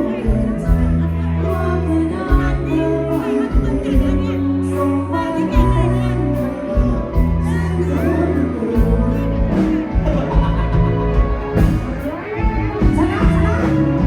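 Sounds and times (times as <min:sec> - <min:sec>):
person singing: 0:00.0 - 0:11.8
bass: 0:00.0 - 0:14.0
live band playing loud music: 0:00.0 - 0:14.0
steady drum beat: 0:00.2 - 0:04.7, 0:05.5 - 0:07.9, 0:08.8 - 0:14.0.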